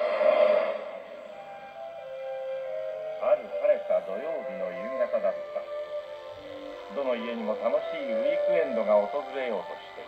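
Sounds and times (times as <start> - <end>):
held music tones: 0.0 - 10.0.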